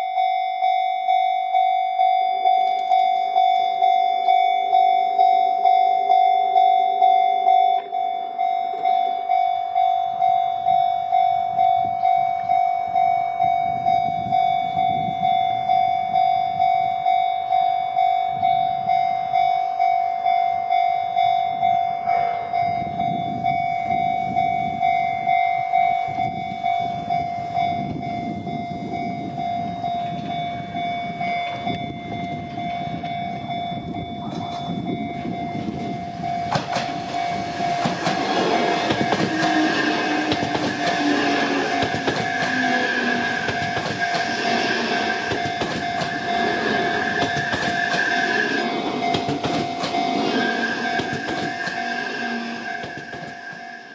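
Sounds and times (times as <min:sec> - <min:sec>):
level-crossing warning bell: 0:00.0 - 0:53.9
train rumbling: 0:00.0 - 0:53.9.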